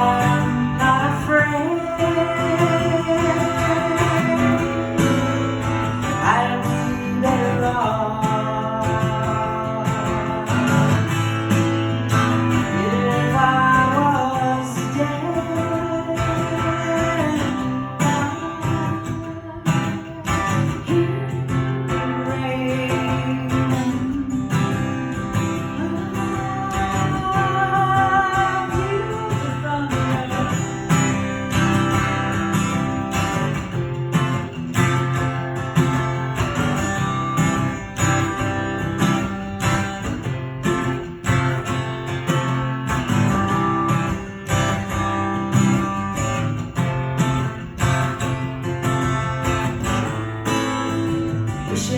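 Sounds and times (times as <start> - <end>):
acoustic guitar strummed: 0.0 - 51.9.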